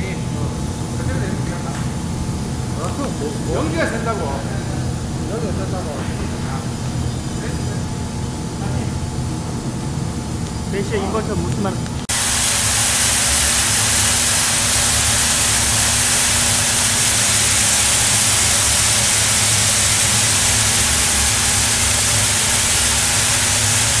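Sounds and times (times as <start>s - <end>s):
cooling fan rushing hiss: 0.0s - 24.0s
low machine hum: 0.0s - 24.0s.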